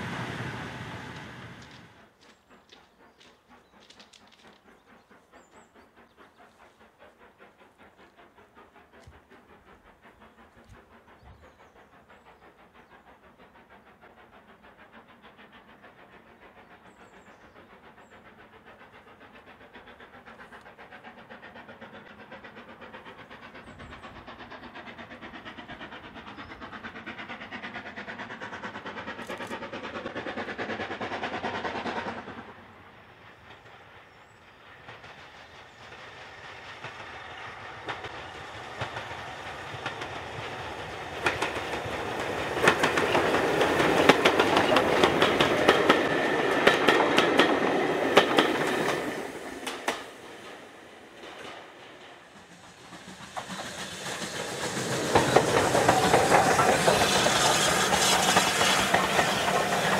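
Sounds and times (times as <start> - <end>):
steam train rhythmic chugging: 0.0 - 59.9.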